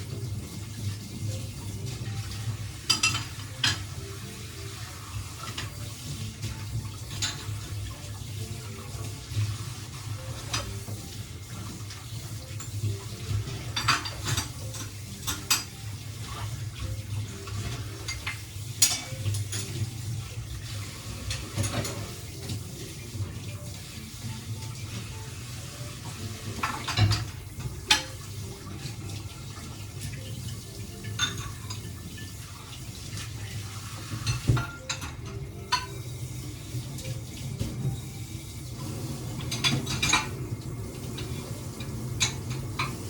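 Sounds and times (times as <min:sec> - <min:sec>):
dishes and utensils clinking: 0:00.0 - 0:43.0.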